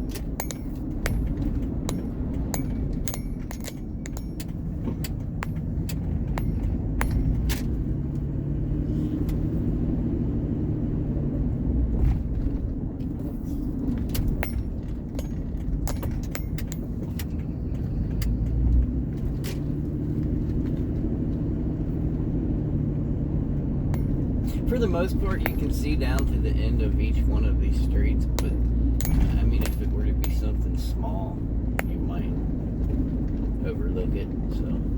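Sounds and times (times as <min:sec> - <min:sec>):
engine and road rumble: 0:00.0 - 0:34.9.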